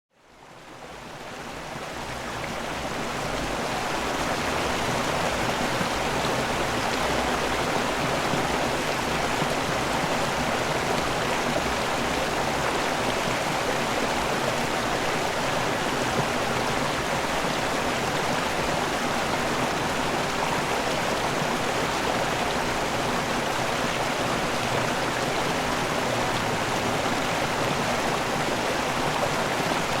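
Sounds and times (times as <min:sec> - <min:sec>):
water rushing: 0:00.3 - 0:30.0.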